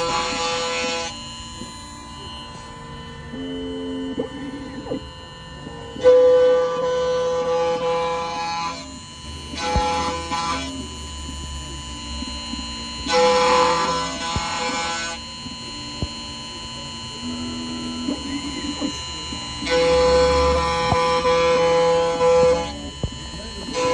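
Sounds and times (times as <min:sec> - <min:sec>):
key-cutting machine motor whine: 0:00.0 - 0:23.9.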